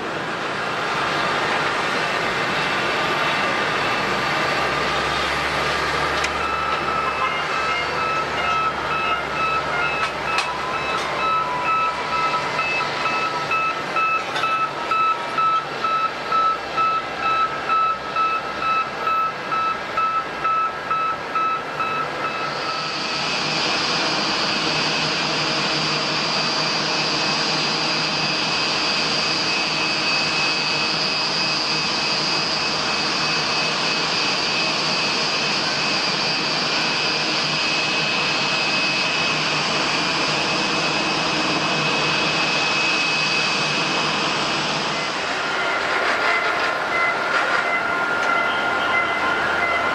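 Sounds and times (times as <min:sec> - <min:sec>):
jet airliner engines whining: 0:00.0 - 0:49.9.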